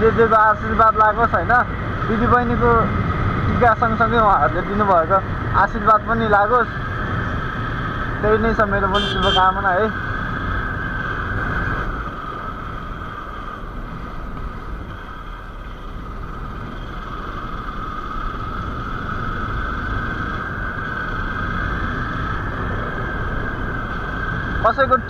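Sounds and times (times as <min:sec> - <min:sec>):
low wind rumble: 0:00.0 - 0:25.0
motorcycle engine running: 0:01.1 - 0:25.0.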